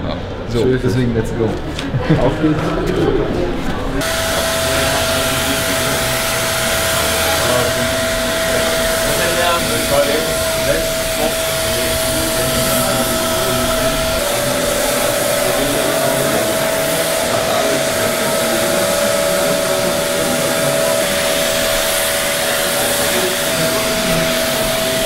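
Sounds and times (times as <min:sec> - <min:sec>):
blower rushing air with whine: 0:03.9 - 0:25.0
second lower whine: 0:04.0 - 0:25.0.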